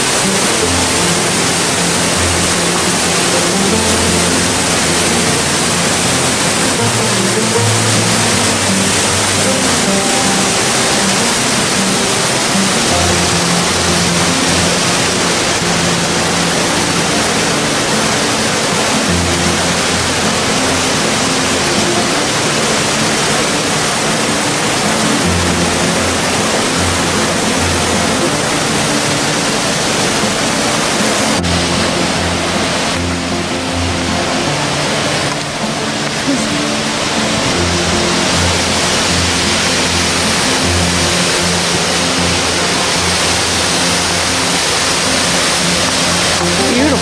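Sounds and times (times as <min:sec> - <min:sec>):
background music with low notes: 0:00.0 - 0:47.0
waterfall rushing over boulders: 0:00.0 - 0:47.0.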